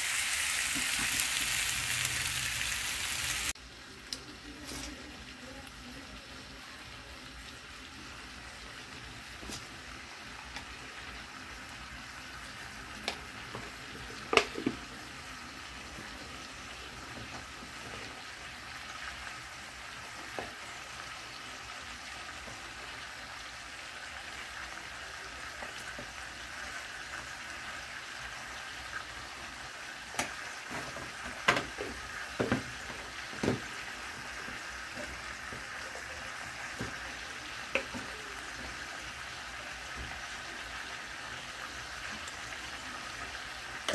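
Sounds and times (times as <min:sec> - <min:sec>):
food sizzling in a wok: 0:00.0 - 0:43.9.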